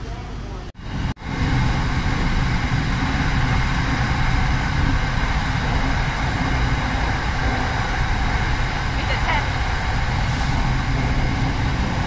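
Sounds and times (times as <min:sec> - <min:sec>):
train cabin running noise: 0:00.0 - 0:12.0.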